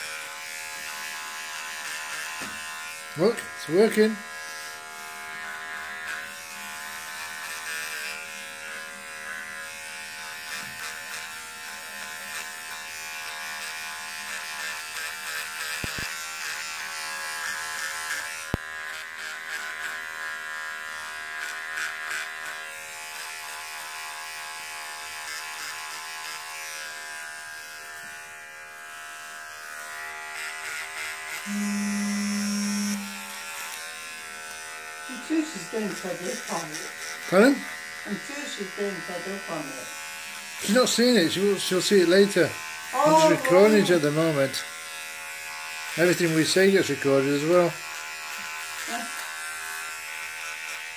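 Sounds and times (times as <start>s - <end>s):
electric razor buzzing: 0.0s - 50.9s.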